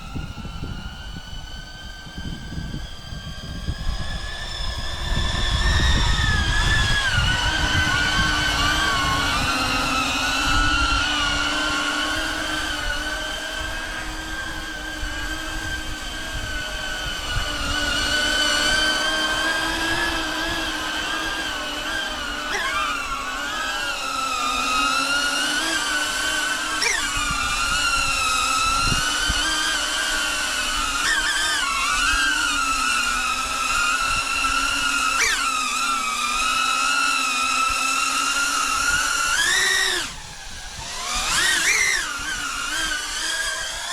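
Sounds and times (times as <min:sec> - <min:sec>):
drone propellers whining: 0:00.0 - 0:43.9
wind rumbling on microphone: 0:00.0 - 0:43.9.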